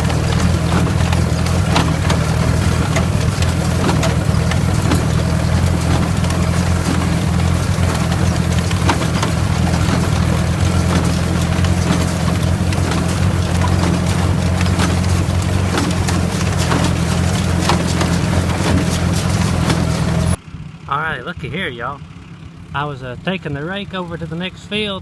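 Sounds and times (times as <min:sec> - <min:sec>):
baler machinery clicks and clatter: 0:00.0 - 0:20.4
tractor engine running: 0:00.0 - 0:25.0.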